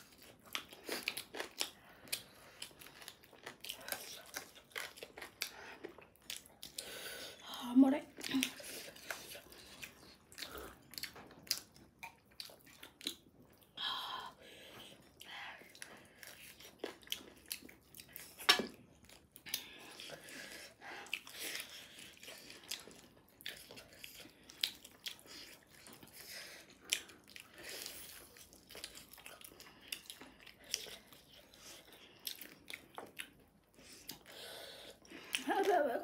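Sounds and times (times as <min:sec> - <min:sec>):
people chewing crunchy food: 0:00.0 - 0:36.0.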